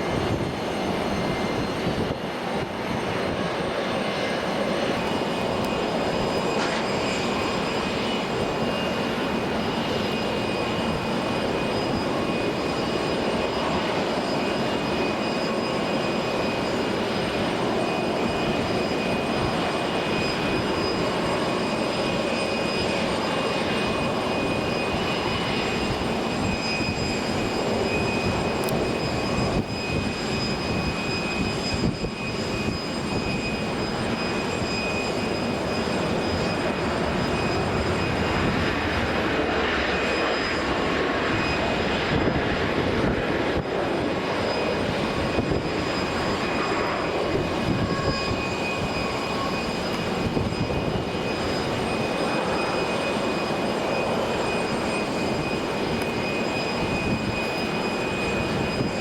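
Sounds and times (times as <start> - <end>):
jet engines running with whine: 0.0 - 59.0.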